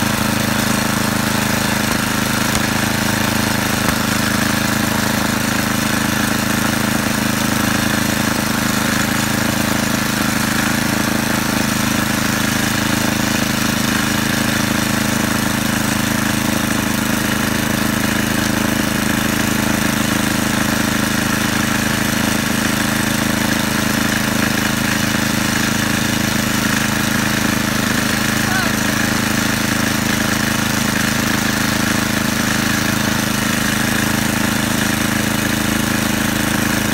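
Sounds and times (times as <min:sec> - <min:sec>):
snowblower engine running: 0:00.0 - 0:36.9.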